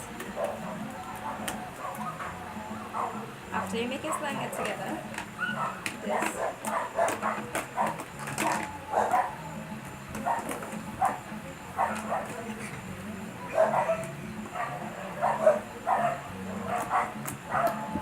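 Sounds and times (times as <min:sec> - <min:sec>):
low steady hum: 0:00.0 - 0:18.0
dog barking: 0:00.3 - 0:03.2, 0:04.0 - 0:09.5, 0:10.2 - 0:12.5, 0:13.4 - 0:18.0.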